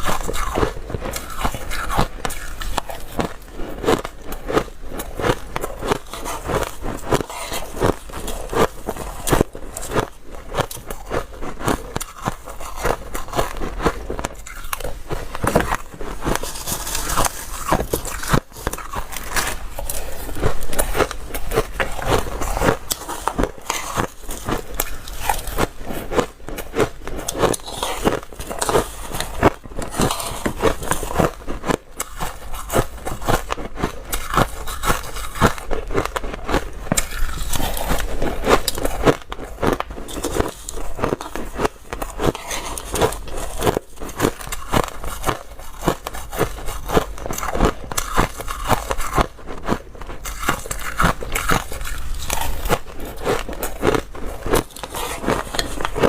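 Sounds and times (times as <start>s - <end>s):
ice being crunched and chewed: 0.0s - 56.0s.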